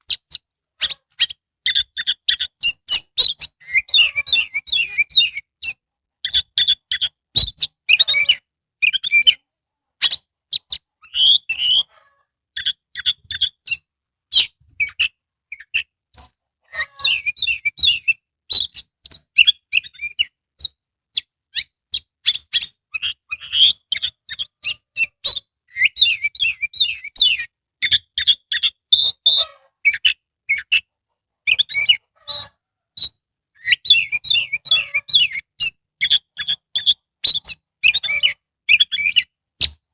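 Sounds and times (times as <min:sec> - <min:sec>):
bird singing sharp notes and whistles: 0:00.0 - 0:11.9, 0:12.5 - 0:30.9, 0:31.5 - 0:39.9.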